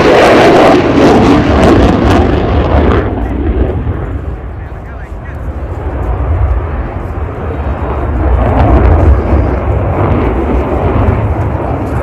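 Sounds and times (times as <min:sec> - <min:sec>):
jet fighter roaring past: 0:00.0 - 0:12.0.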